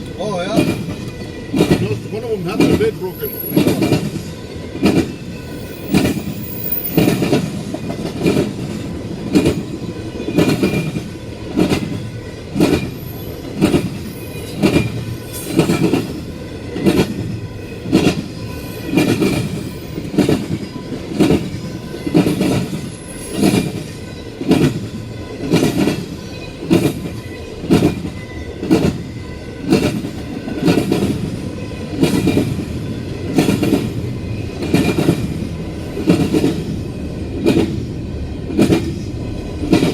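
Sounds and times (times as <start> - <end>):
freight train rumble: 0.0 - 39.9
train wheels clacking over rail joints: 0.0 - 39.9.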